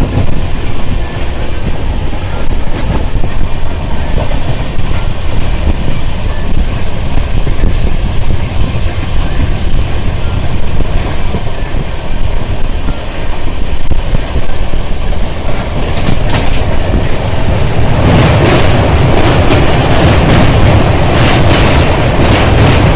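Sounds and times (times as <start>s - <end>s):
train wheels rumbling on track: 0.0s - 22.9s.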